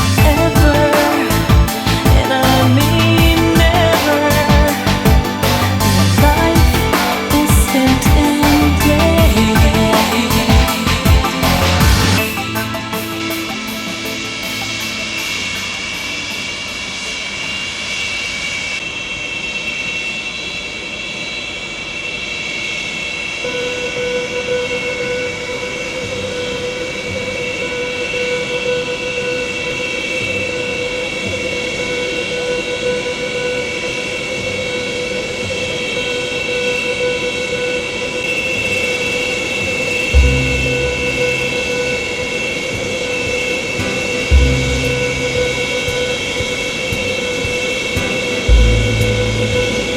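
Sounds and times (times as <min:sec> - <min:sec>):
mechanical drone: 0:00.0 - 0:49.9.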